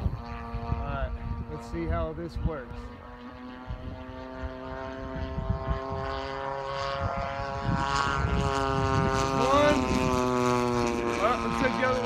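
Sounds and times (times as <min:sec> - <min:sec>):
model airplane motor droning: 0:00.0 - 0:12.0.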